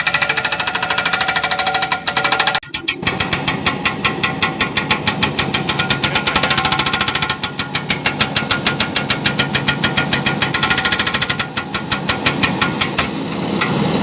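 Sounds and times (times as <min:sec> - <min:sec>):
excavator engine hum: 0:00.0 - 0:14.0
hydraulic breaker hammering rock: 0:00.0 - 0:14.0.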